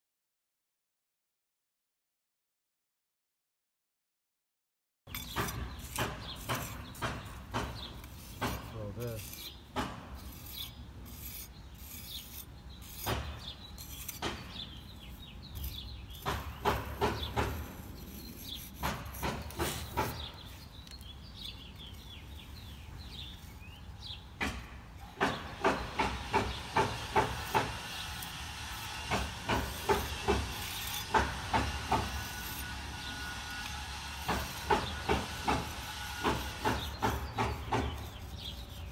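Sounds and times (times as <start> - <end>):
scraping strokes on stone: 5.1 - 38.9.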